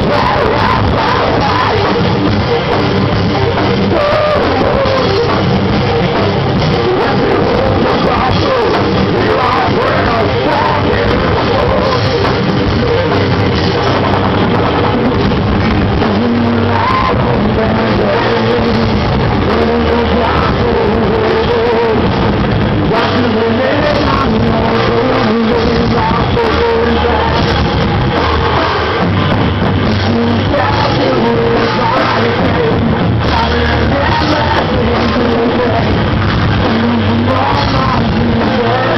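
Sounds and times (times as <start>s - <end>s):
live rock band playing: 0.0s - 38.9s
person singing: 0.0s - 38.9s.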